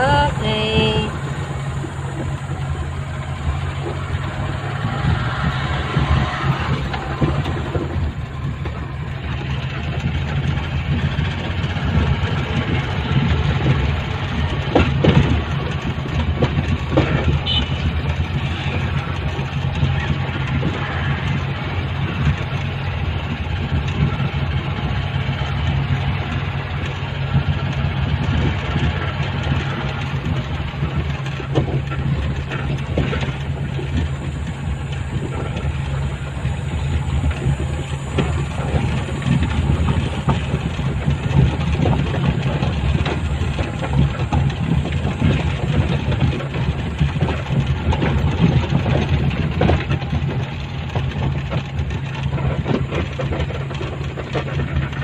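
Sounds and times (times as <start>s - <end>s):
knocks and rattles: 0.0s - 55.0s
vehicle engine humming: 0.0s - 55.0s.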